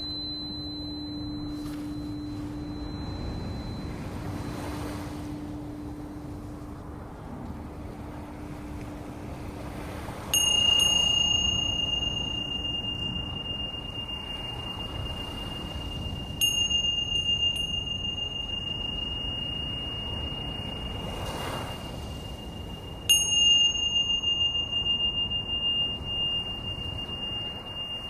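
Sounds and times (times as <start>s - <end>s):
high-pitched metal bell ringing: 0.0s - 5.9s, 10.3s - 28.0s
wind: 0.0s - 28.0s.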